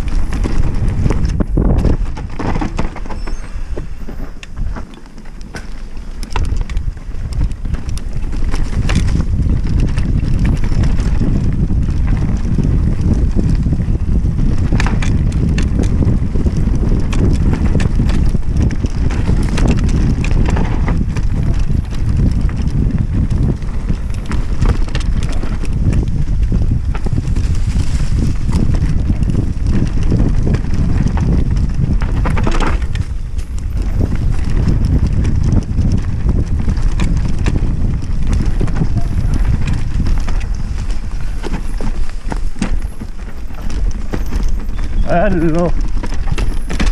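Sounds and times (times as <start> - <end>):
bike knocking and rattling: 0.0 - 46.9
tyre rumble: 0.0 - 46.9
wind buffeting microphone: 0.0 - 46.9.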